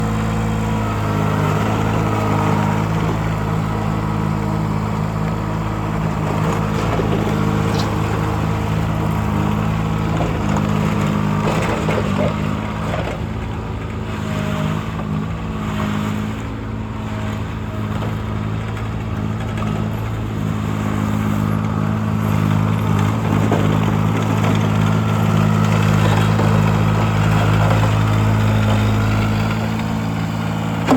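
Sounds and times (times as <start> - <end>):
skid steer engine running: 0.0 - 30.9
clatter: 5.2 - 16.5, 17.2 - 30.9.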